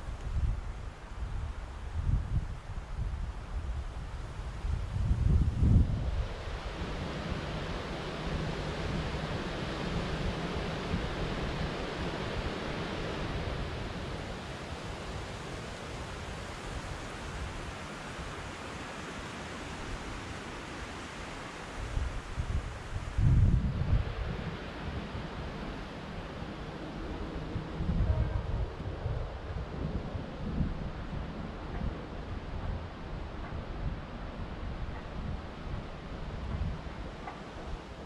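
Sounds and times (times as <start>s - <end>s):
steady rushing hiss: 0.0s - 38.0s.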